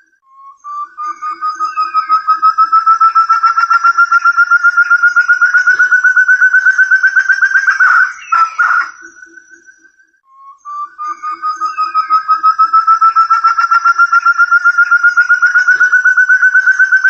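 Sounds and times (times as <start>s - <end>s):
quail whistled call: 0.0s - 17.0s.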